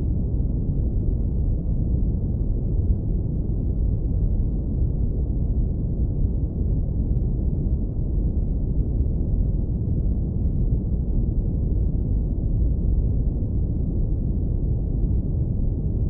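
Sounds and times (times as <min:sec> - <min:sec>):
deep brown noise rumble: 0:00.0 - 0:16.0.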